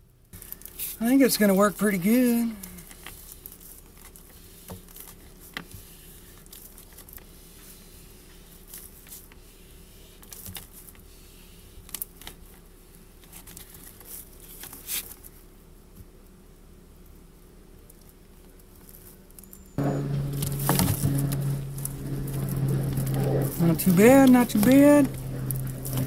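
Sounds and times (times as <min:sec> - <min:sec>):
faint steady hum: 0:00.0 - 0:26.0
plastic hose crinkling: 0:00.4 - 0:15.4, 0:17.9 - 0:26.0.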